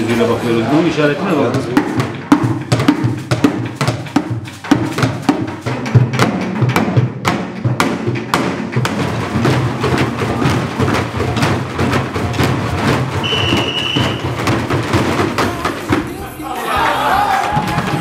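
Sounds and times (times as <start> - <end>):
sticks beating plastic buckets: 0.0 - 16.4, 17.2 - 18.0.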